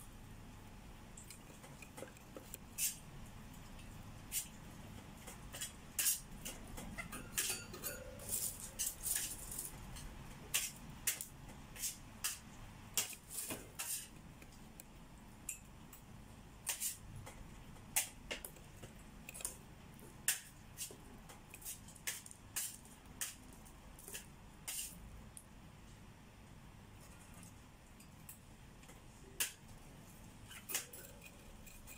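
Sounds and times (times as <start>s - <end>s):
bird beak and claws on wire cage: 1.2s - 14.9s, 15.6s - 25.0s, 27.0s - 31.9s.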